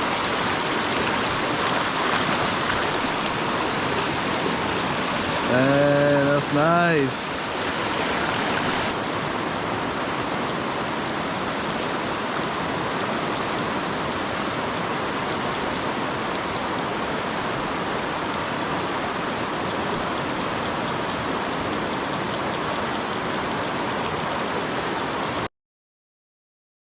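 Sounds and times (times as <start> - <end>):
river water rushing: 0.0 - 25.5.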